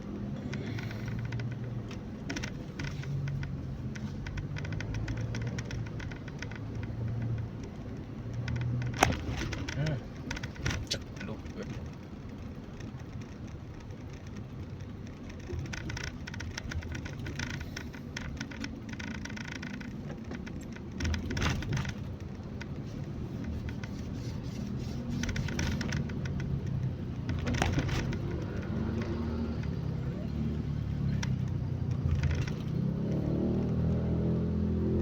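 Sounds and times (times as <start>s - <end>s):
car engine and road rumble: 0.0s - 35.0s
crackling noise: 0.4s - 32.8s.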